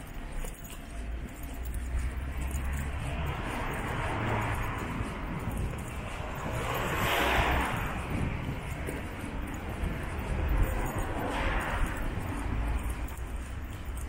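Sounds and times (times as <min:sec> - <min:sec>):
low traffic rumble: 0:00.0 - 0:14.0
vehicles passing: 0:00.0 - 0:14.0.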